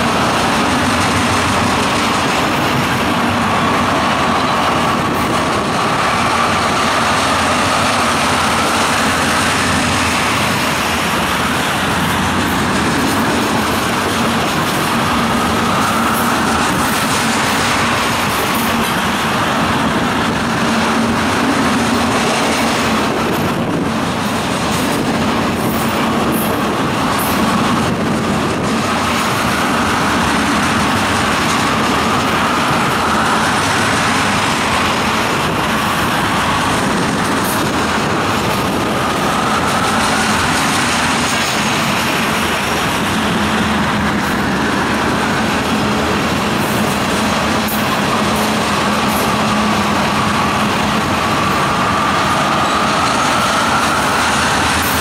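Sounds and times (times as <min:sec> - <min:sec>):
freight train wheels rumbling on rail: 0:00.0 - 0:55.0.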